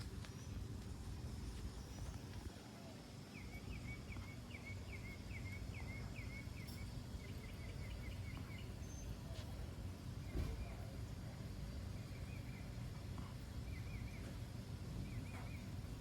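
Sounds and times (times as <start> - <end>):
low outdoor rumble: 0.0 - 16.0
songbird chirping: 0.0 - 16.0.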